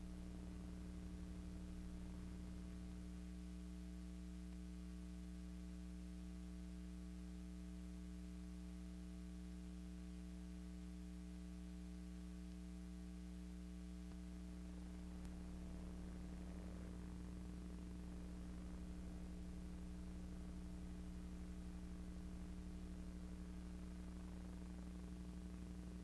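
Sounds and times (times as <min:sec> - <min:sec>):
low mains hum: 0:00.0 - 0:26.0.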